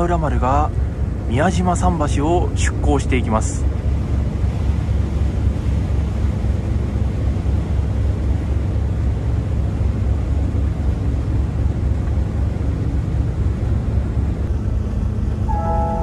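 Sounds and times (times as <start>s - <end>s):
ferry engine rumble: 0.0s - 16.0s.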